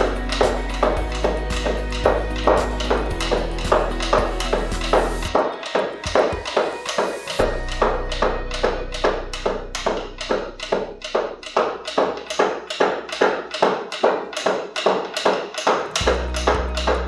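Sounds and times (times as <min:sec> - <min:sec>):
knife chopping on wooden board: 0:00.0 - 0:17.0.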